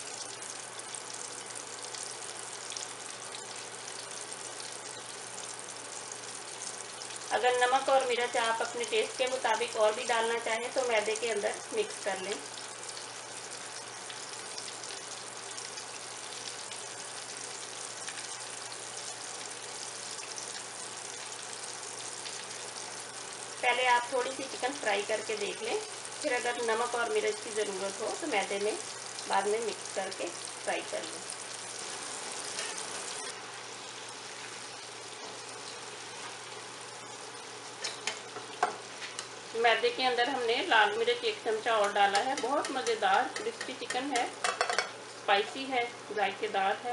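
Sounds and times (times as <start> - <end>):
chicken deep-frying in oil: 0.0 - 46.9.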